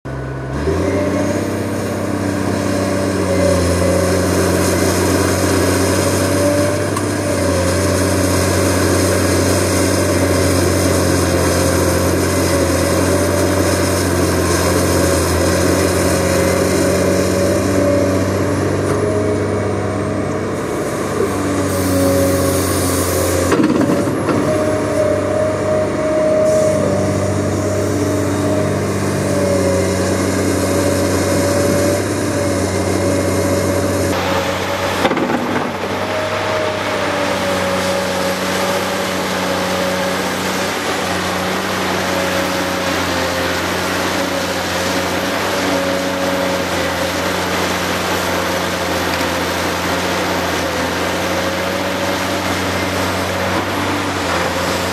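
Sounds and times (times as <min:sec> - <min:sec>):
heavy diesel engine drone: 0:00.0 - 0:54.9.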